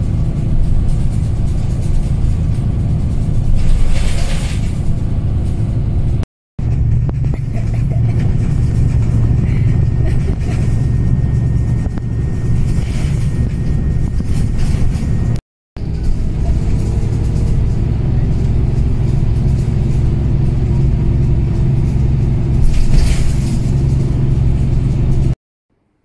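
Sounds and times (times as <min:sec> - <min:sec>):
bus engine drone: 0:00.0 - 0:25.4
road noise: 0:00.0 - 0:25.4.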